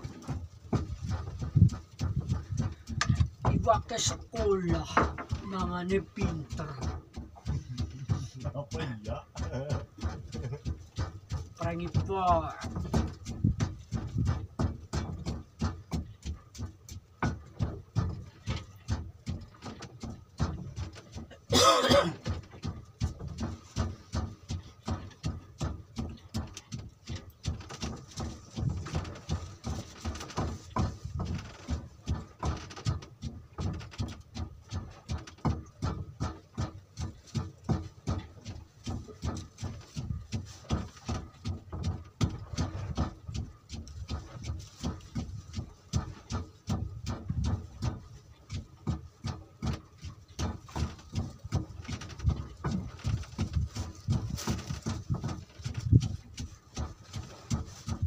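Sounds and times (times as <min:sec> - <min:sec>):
waves slapping wooden hull: 0:00.0 - 0:58.0.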